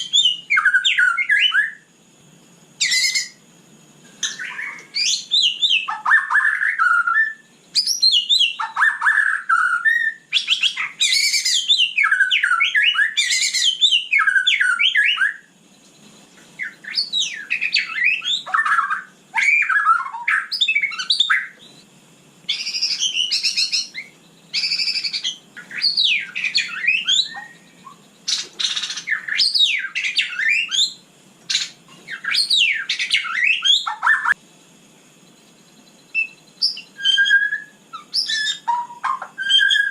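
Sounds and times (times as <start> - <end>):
bird singing whistled notes: 0.0 - 1.9, 2.8 - 3.4, 4.2 - 34.4, 35.2 - 39.9.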